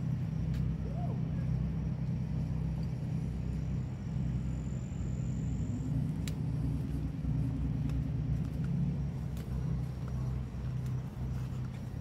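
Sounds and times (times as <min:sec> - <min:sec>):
motor yacht engine rumble: 0:00.0 - 0:12.0.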